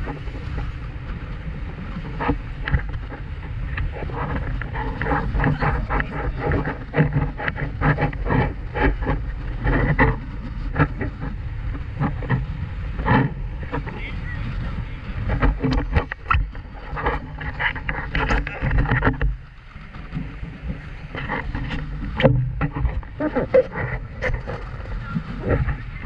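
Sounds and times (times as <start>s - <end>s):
boat engine drone: 0.0s - 26.0s
wind buffeting microphone: 0.0s - 26.0s.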